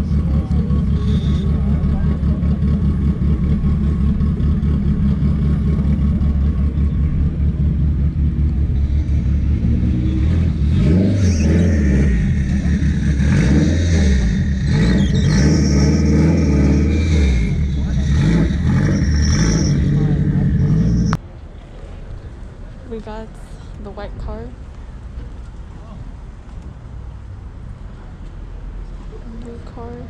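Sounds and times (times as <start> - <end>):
car engine idling and revving: 0.0 - 21.2, 21.9 - 30.0.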